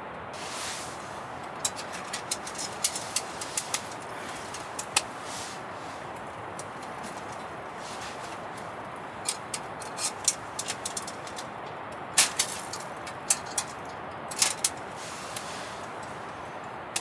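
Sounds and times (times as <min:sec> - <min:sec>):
wood fire crackling and popping: 0:00.4 - 0:17.0.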